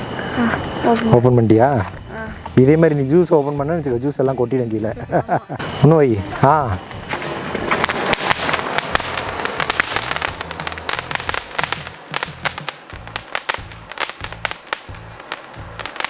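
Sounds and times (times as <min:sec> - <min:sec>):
firework crackling: 0:00.0 - 0:03.4, 0:05.6 - 0:16.0.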